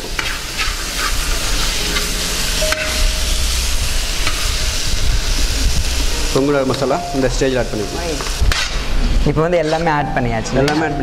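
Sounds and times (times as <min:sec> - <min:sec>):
food sizzling in an iron pan: 0:00.0 - 0:11.0.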